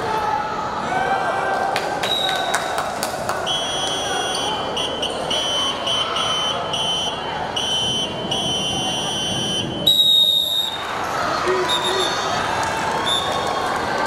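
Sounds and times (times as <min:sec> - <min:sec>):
crowd murmur: 0:00.0 - 0:14.0.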